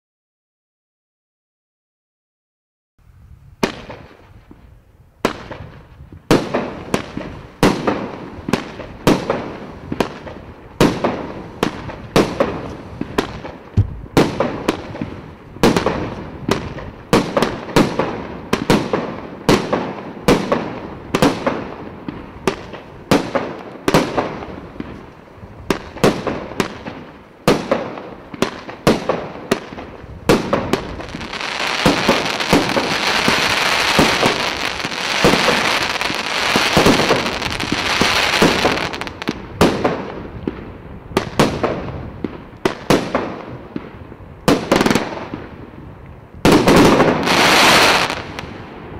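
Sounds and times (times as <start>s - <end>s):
dense steady hiss: 3.0s - 48.9s
fireworks bangs with echo: 3.6s - 4.6s, 5.2s - 45.8s, 46.4s - 48.9s.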